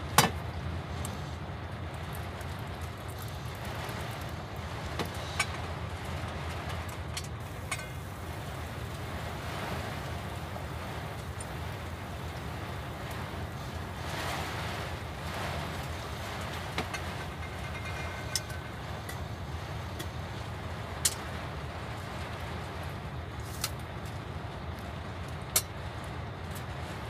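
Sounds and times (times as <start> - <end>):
heavy rain and wind: 0.0 - 27.0
raindrops tapping windscreen: 0.0 - 27.0.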